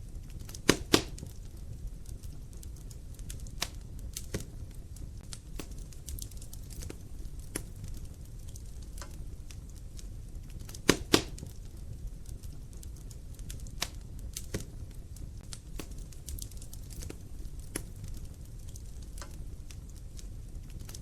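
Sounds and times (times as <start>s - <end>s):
fire crackling and popping: 0.0s - 21.0s
wood logs burning: 0.0s - 21.0s.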